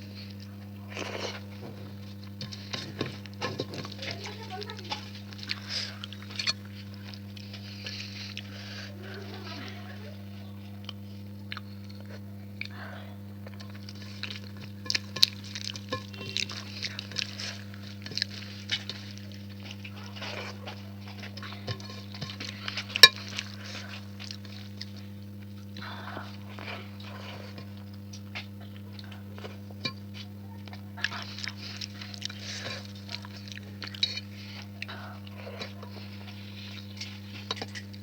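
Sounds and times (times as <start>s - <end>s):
wet chewing and lip smacking: 0.2s - 9.2s, 10.7s - 12.8s, 13.4s - 38.0s.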